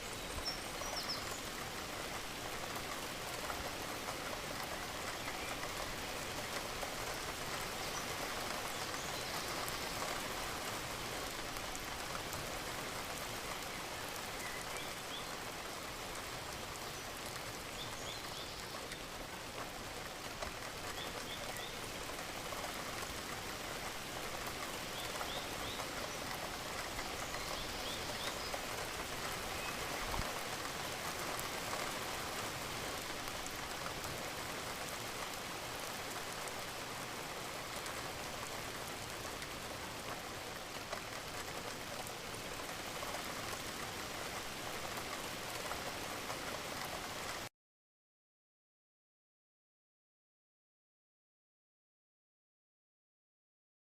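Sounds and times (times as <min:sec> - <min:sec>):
steady rain patter: 0:00.0 - 0:47.5.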